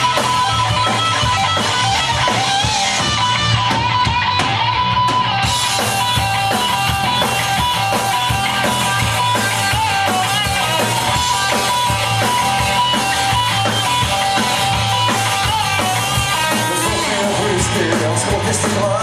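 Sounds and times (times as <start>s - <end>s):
distorted electric guitar: 0.0s - 19.0s
drum kit beat: 0.0s - 19.0s.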